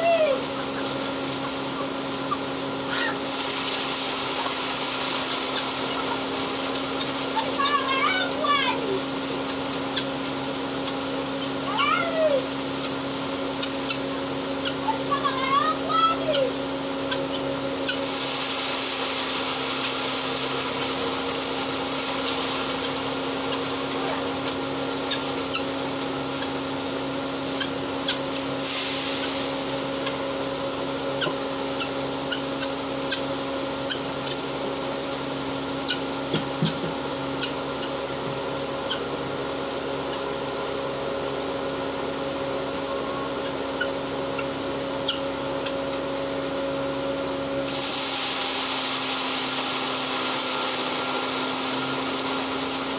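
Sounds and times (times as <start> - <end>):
mill motor hum: 0.0 - 52.9.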